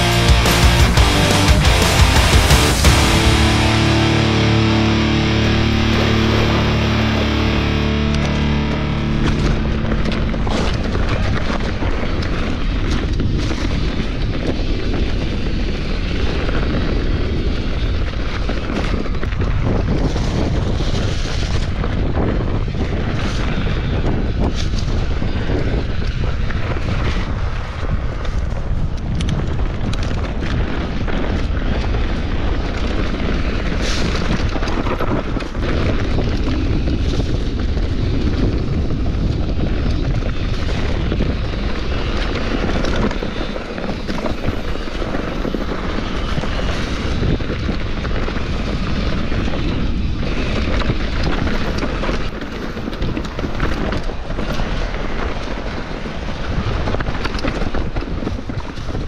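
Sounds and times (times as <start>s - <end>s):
bike tyre noise: 0.0s - 59.0s
wind rumbling on microphone: 1.6s - 59.0s.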